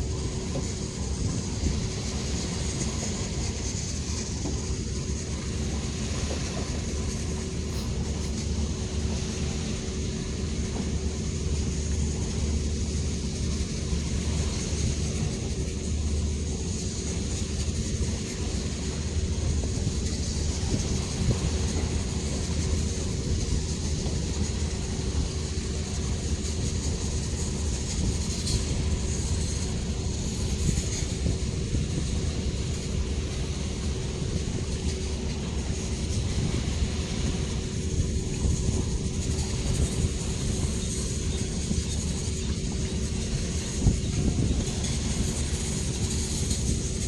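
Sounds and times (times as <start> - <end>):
ship engines droning: 0.0 - 47.0.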